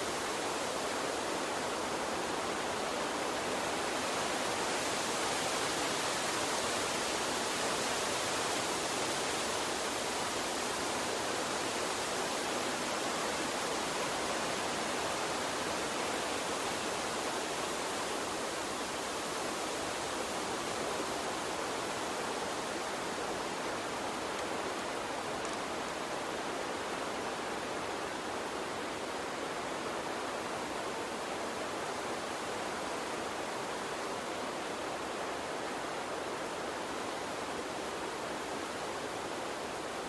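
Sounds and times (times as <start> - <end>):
stream rushing: 0.0 - 40.0.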